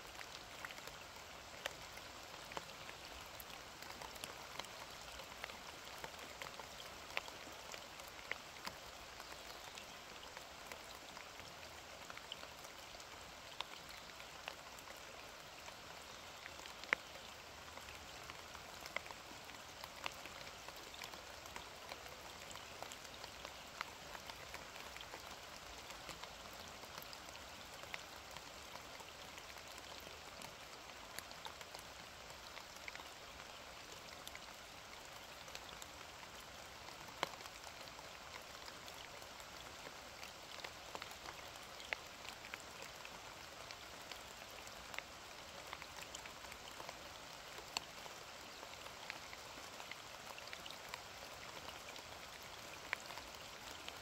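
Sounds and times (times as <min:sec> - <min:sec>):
rain drips ticking: 0:00.0 - 0:54.0
soft rain: 0:00.0 - 0:54.0.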